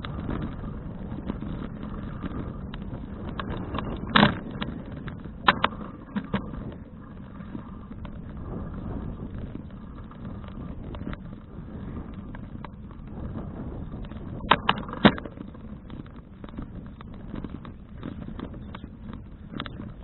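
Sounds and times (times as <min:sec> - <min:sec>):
road rumble: 0:00.0 - 0:20.0
small clicks and rattles: 0:00.0 - 0:20.0
wind on microphone: 0:00.0 - 0:20.0.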